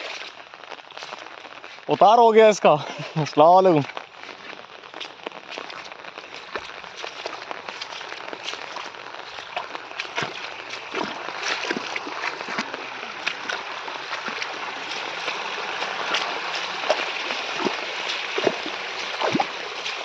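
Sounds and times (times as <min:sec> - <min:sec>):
heavy rain falling: 0:00.0 - 0:20.0
rain drips and splashes: 0:00.0 - 0:20.0.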